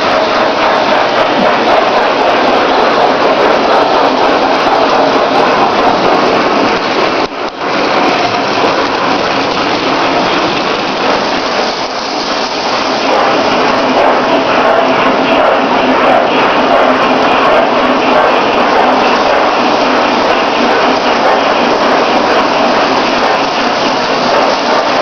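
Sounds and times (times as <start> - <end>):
toy train rumbling on track: 0.0 - 25.0.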